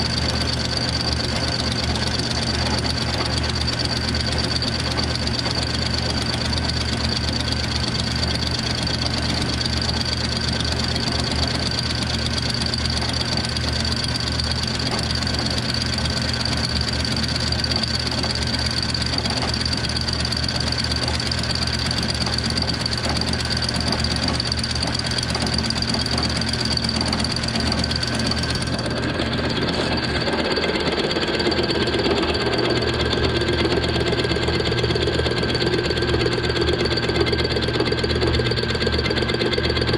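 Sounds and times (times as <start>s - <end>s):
milling machine running: 0.0s - 39.9s
rapid knocking chatter: 0.0s - 39.9s.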